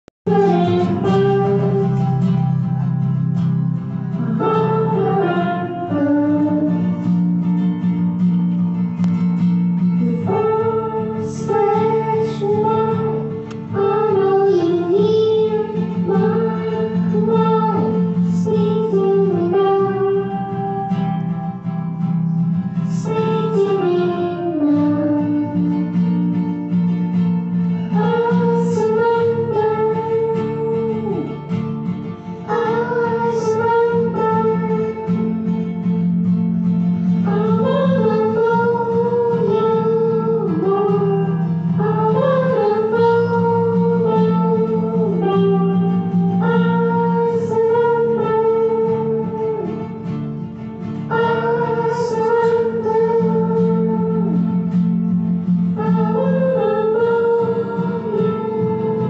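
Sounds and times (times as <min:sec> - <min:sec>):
acoustic guitar: 0:00.0 - 0:59.0
child singing: 0:00.3 - 0:02.6, 0:04.1 - 0:07.0, 0:10.0 - 0:21.4, 0:22.7 - 0:26.1, 0:27.8 - 0:31.5, 0:32.4 - 0:35.7, 0:37.2 - 0:50.1, 0:51.0 - 0:55.0, 0:55.6 - 0:59.0.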